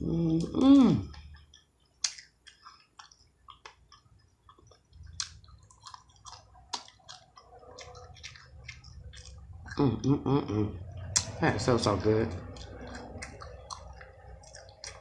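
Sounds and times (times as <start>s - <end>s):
person chewing fried fish: 0.0s - 15.0s.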